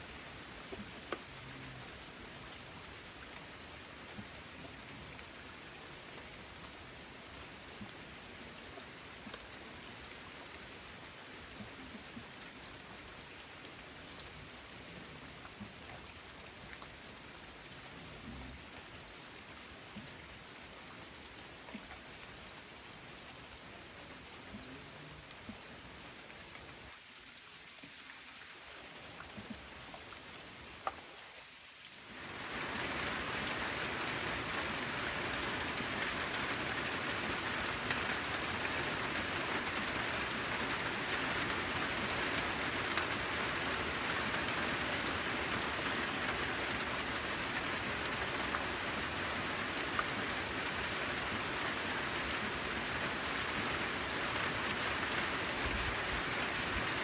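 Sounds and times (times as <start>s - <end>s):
faint high insect trill: 0.0s - 57.0s
heavy rain downpour: 0.0s - 57.0s.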